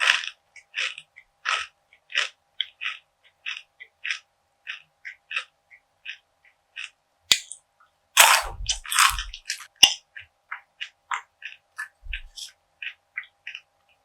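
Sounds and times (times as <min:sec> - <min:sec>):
crunchy chewing: 0:00.0 - 0:07.6, 0:08.2 - 0:13.7.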